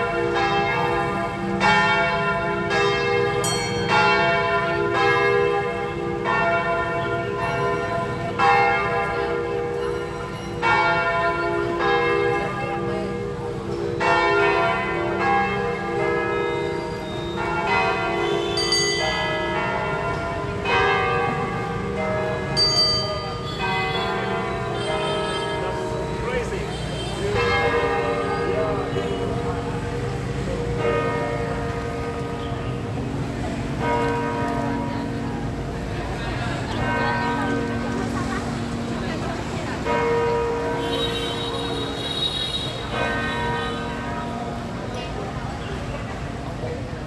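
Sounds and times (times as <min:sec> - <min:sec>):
church bells ringing: 0:00.0 - 0:47.0.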